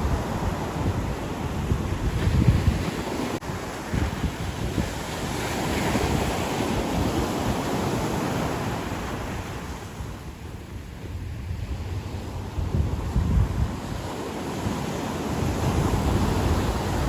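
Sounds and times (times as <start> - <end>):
ocean surf washing up beach: 0.0 - 17.0
wind buffeting microphone: 0.0 - 17.0.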